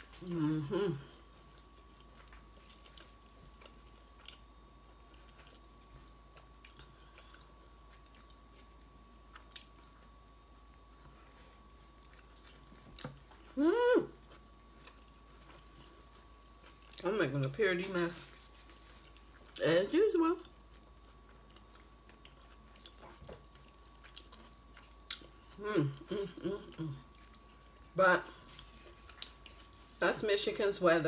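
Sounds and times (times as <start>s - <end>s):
person chewing food: 0.0s - 17.1s, 18.3s - 19.6s, 20.4s - 30.0s.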